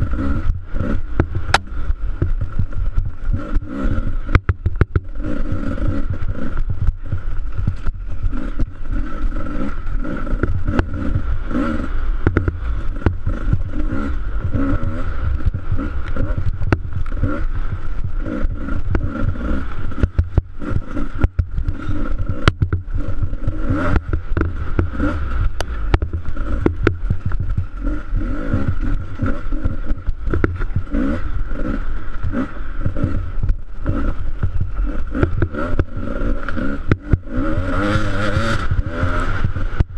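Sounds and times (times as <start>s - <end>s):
bike knocks and rattles: 0.0s - 39.9s
dirt bike engine revving: 0.0s - 39.9s.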